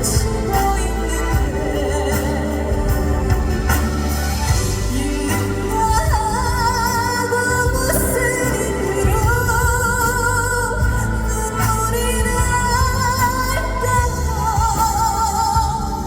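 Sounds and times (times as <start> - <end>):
live ballad with band: 0.0 - 16.0.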